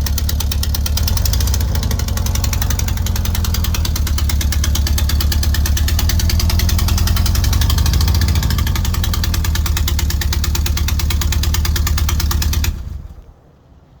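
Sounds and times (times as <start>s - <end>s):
van engine ticking clatter: 0.0s - 13.4s.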